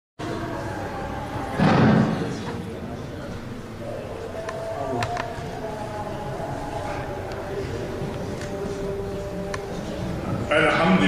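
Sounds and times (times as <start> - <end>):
steady background hum: 0.2 - 11.0.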